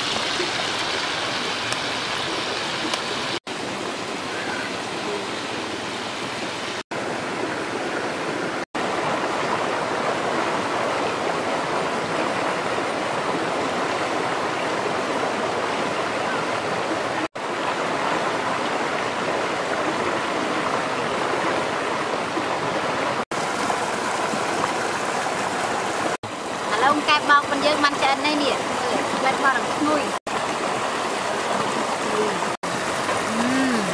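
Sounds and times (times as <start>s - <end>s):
stream running over rocks: 0.0s - 33.9s.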